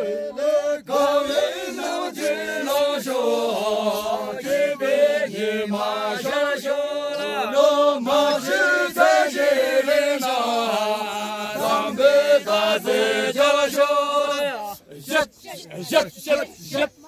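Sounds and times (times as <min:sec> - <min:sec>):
people talking: 0:00.0 - 0:10.1, 0:11.2 - 0:17.0
men singing a chant: 0:00.0 - 0:17.0.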